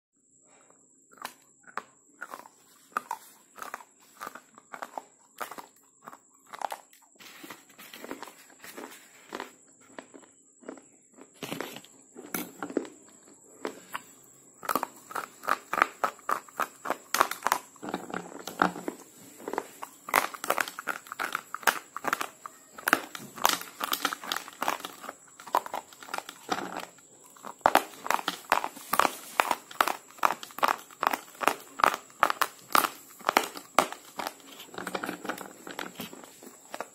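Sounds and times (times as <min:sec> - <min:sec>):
chewing dry crunches: 0:00.5 - 0:36.9.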